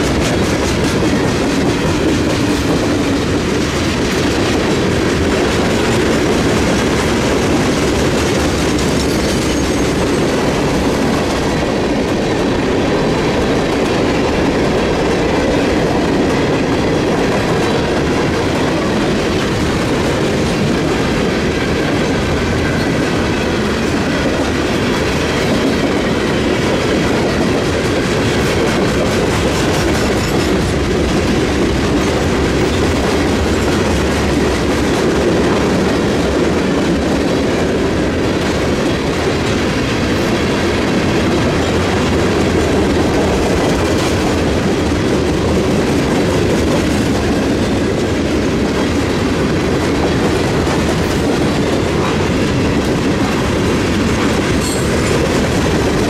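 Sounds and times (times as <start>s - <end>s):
steel wheels running on rails: 0.0s - 56.0s.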